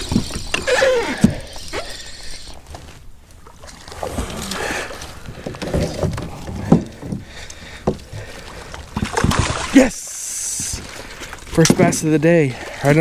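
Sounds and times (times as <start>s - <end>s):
gear rustling and bumping on hull: 0.0s - 4.0s, 5.0s - 9.8s, 10.5s - 13.0s.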